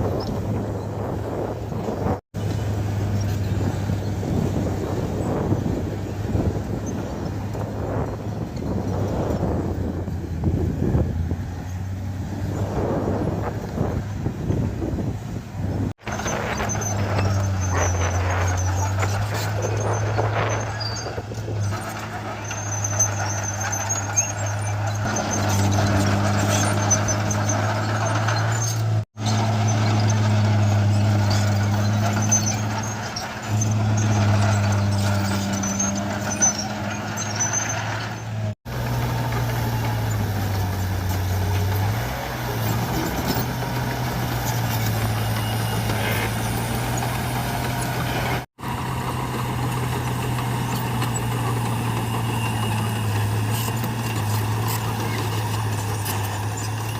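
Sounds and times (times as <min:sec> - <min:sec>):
bulldozer diesel engine under load: 0:00.0 - 0:56.9.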